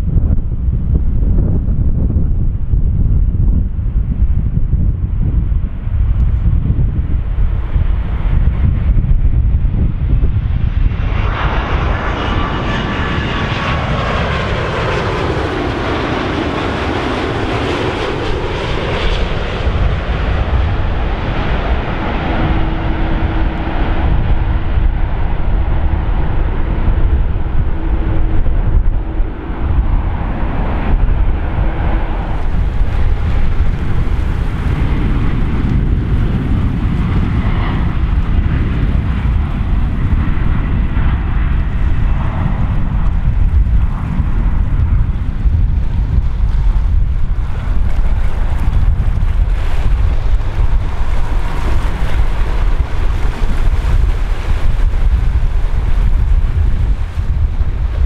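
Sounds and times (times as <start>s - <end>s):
heavy low rumble: 0.0s - 58.0s
jet engine whine: 0.0s - 58.0s.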